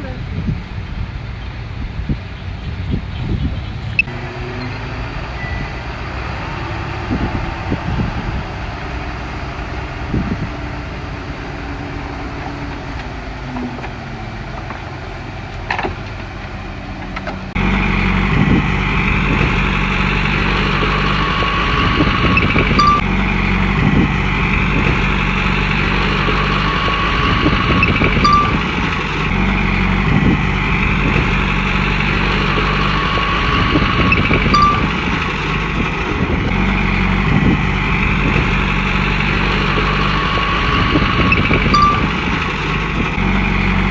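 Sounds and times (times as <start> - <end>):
bulldozer diesel engine under load: 0.0 - 43.9
high engine whine: 0.0 - 43.9.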